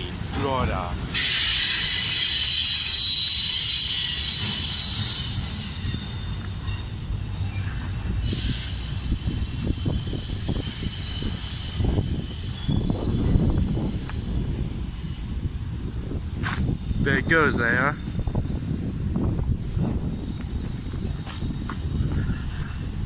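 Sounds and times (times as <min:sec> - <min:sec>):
low rumble of railcars: 0:00.0 - 0:23.0
train wheels squealing: 0:01.0 - 0:23.0.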